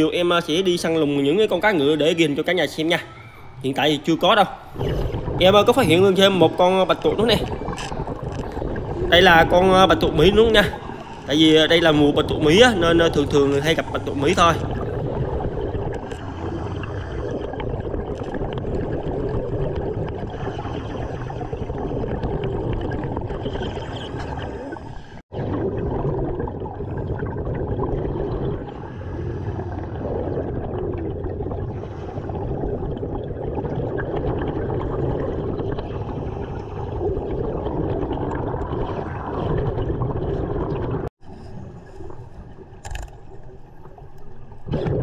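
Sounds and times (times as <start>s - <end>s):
underwater rushing and bubbling: 0.0s - 45.0s.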